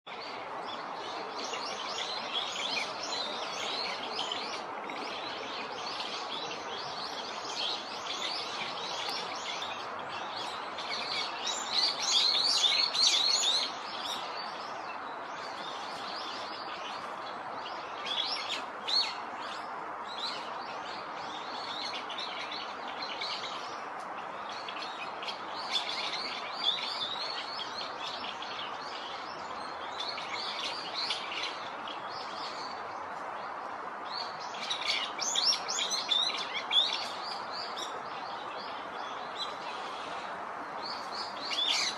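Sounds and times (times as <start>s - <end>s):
birds chirping and twittering: 0.1s - 41.9s
steady background hiss: 0.1s - 41.9s.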